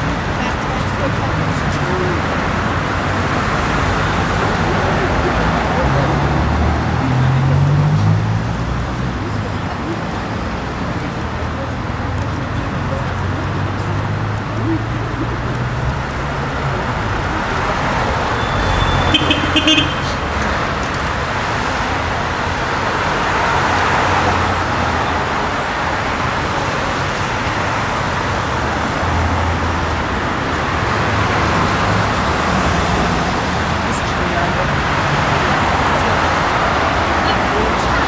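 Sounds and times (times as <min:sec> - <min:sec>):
passing vehicles: 0:00.0 - 0:38.0.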